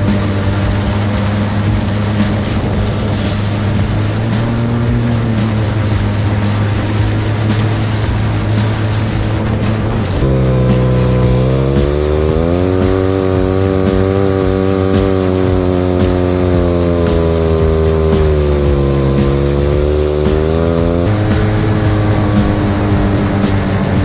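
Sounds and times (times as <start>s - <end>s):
background music: 0.0s - 24.0s
utility vehicle engine running: 0.0s - 24.0s.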